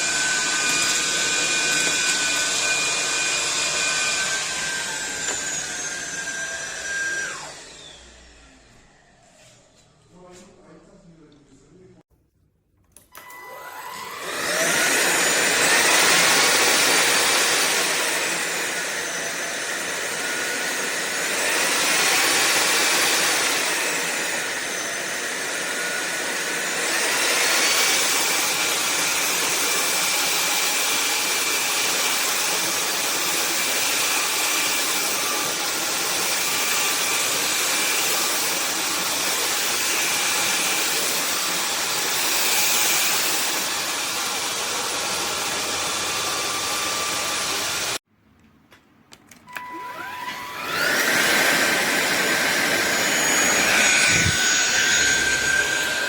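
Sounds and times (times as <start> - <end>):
vacuum motor whine: 0.0 - 9.9, 13.1 - 48.0, 49.5 - 56.0.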